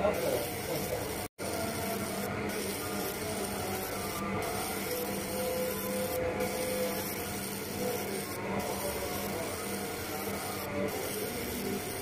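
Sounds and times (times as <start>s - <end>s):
laser marking machine whirring: 0.0s - 12.0s.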